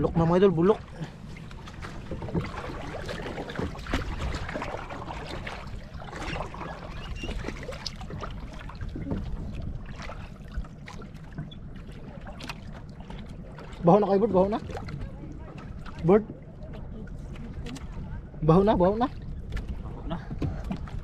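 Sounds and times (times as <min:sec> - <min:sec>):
water splashing against boat: 0:00.0 - 0:21.0.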